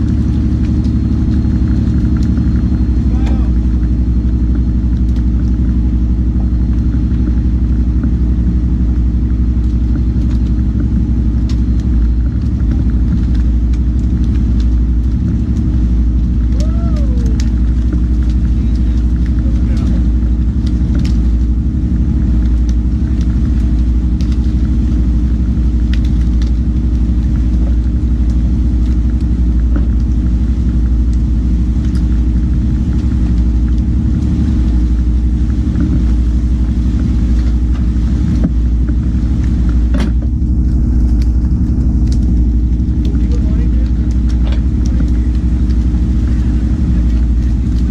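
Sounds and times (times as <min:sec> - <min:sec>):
boat engine rumbling: 0:00.0 - 0:47.9.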